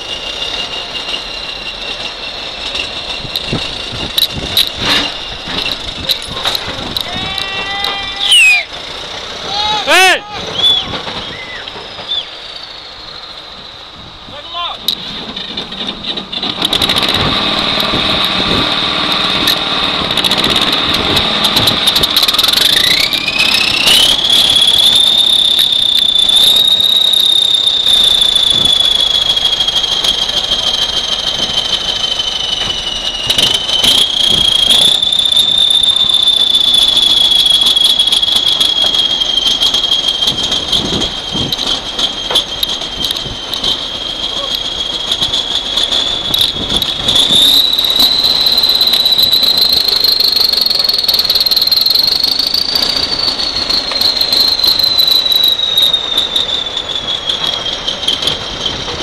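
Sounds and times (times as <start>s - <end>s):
aircraft turbine whine: 0.0s - 59.0s.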